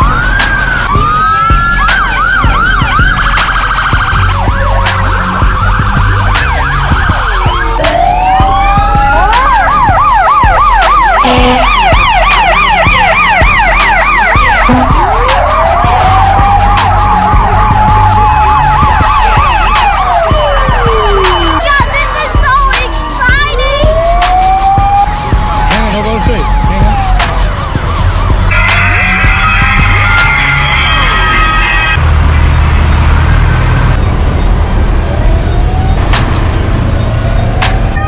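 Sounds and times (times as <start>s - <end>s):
rapid siren yelp: 0.0s - 32.0s, 33.2s - 38.0s
siren holding steady tone: 0.0s - 32.0s
fire truck sirens wailing: 0.0s - 38.0s.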